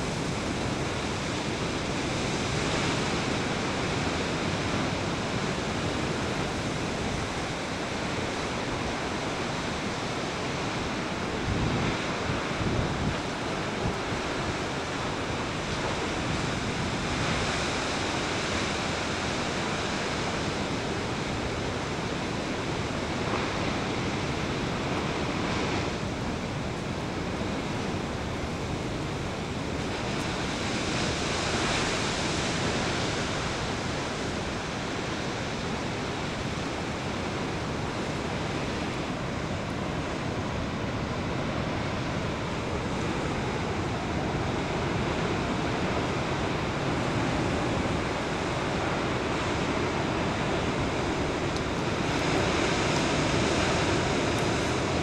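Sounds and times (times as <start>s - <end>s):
ocean waves crashing: 0.0s - 55.0s
wind buffeting microphone: 0.0s - 55.0s.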